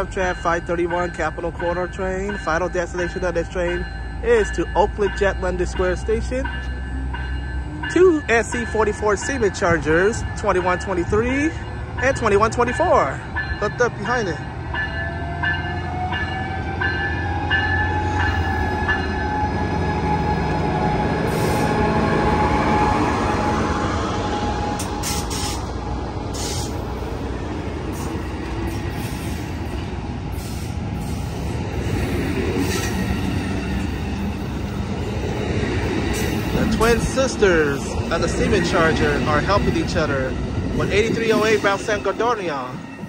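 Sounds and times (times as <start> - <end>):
train cars clattering by: 0.0 - 43.0
train rumbling past: 0.0 - 43.0.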